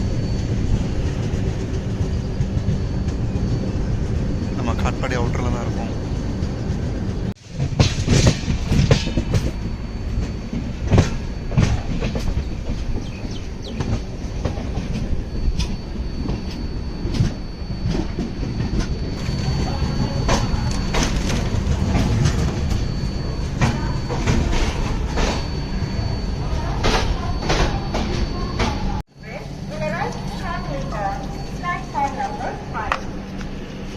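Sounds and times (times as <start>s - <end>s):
train rumbling on track: 0.0s - 33.9s.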